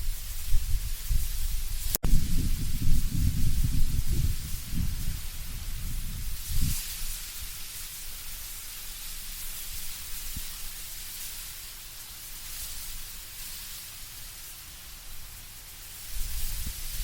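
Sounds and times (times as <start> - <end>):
wind rustling tree leaves: 0.0 - 17.0.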